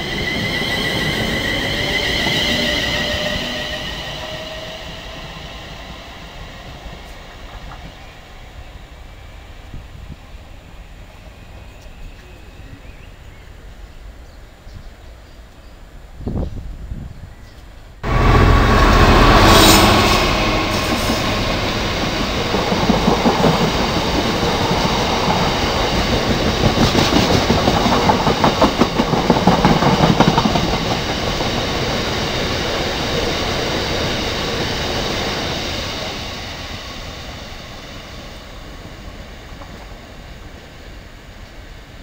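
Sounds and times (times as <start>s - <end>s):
diesel locomotive engine passing: 0.0s - 13.9s, 18.0s - 42.0s.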